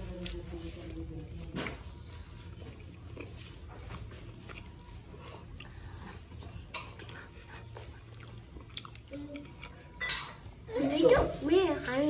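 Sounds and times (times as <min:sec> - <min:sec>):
dumplings being chewed: 0:00.0 - 0:10.5.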